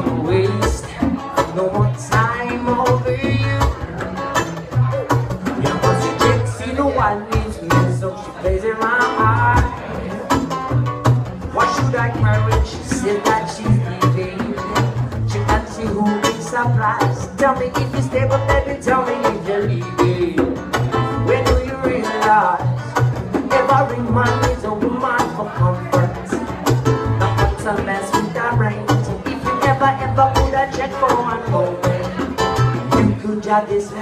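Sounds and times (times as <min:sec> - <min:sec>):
acoustic guitar: 0:00.0 - 0:34.0
hand drum: 0:00.0 - 0:34.0
man singing into a microphone: 0:00.0 - 0:34.0.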